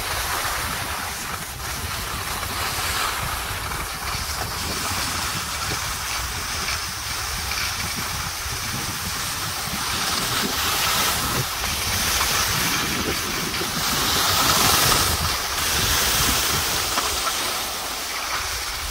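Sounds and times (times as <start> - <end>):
skis scraping over snow: 0.0 - 18.9
wind rumbling on microphone: 0.0 - 18.9.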